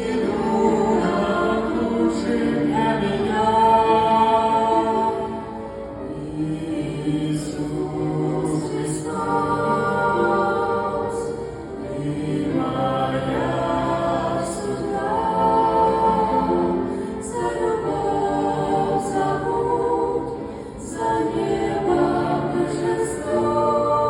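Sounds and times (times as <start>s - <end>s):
choir singing slow song: 0.0s - 24.0s.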